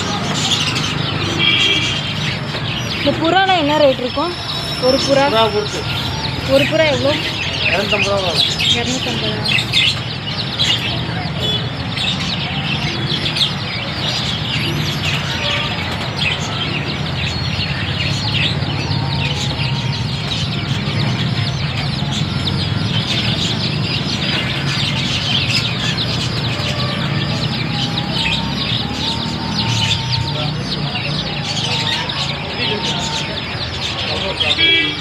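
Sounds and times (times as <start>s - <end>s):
chicks peeping: 0.0s - 35.0s.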